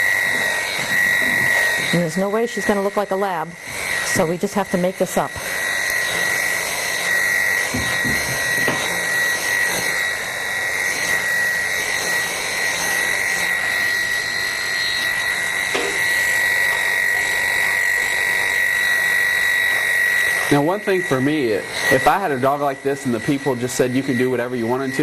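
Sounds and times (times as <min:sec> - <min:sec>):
electric clipper whining: 0:00.0 - 0:25.0.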